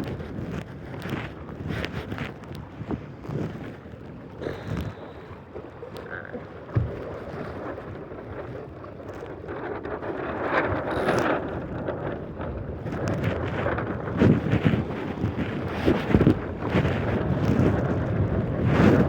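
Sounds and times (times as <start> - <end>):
choppy water: 0.0 - 19.0
wind buffeting microphone: 0.0 - 19.0.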